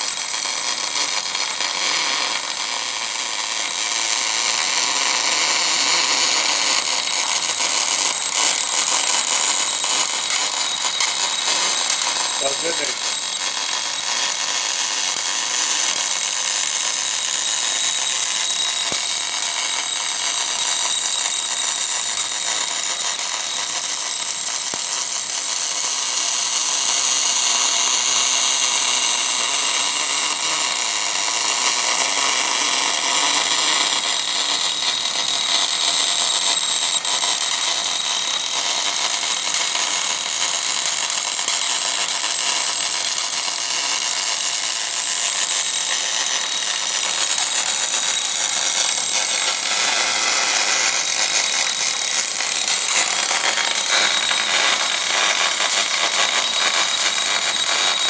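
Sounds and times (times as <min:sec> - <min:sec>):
welding arc hissing: 0:00.0 - 0:36.8, 0:37.4 - 0:58.0.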